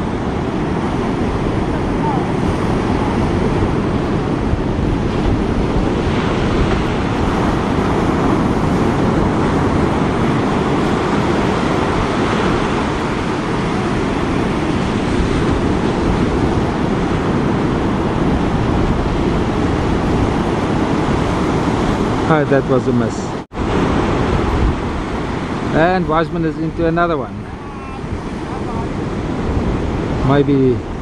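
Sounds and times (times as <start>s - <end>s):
ocean surf on beach: 0.0s - 31.0s.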